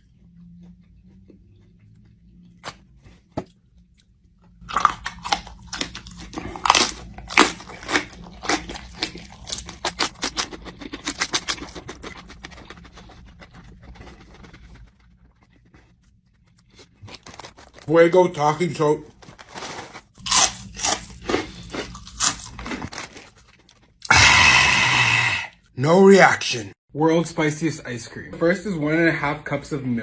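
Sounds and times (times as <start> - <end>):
person chewing crunchy food: 0.0 - 25.7.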